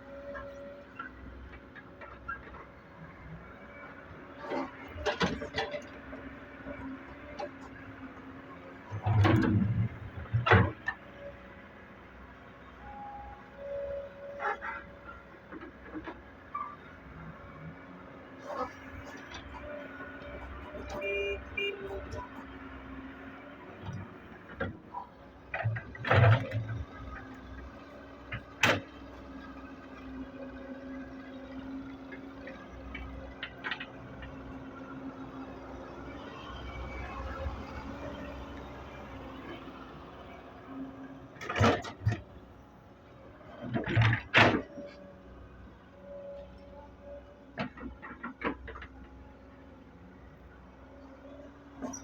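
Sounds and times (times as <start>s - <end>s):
diesel engines running: 0.0s - 52.0s.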